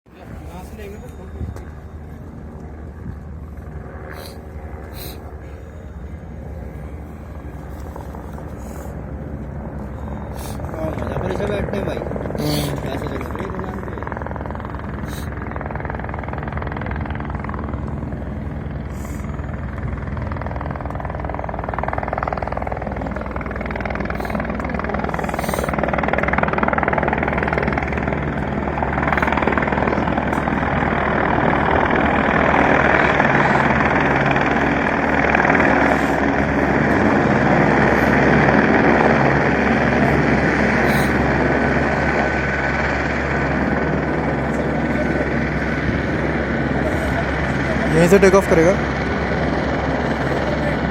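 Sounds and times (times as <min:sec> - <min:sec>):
helicopter turbine and rotor: 0:00.1 - 0:50.9.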